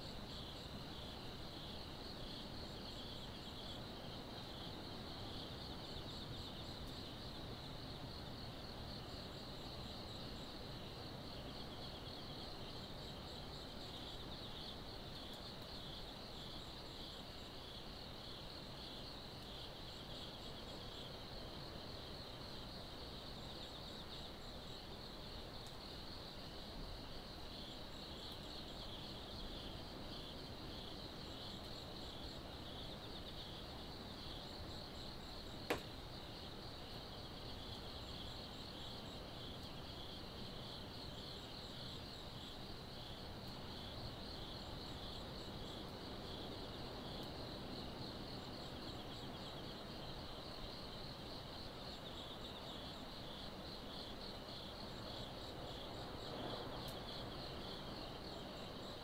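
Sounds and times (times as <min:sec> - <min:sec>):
insects trilling: 0:00.0 - 0:59.0
low background noise: 0:00.0 - 0:59.0.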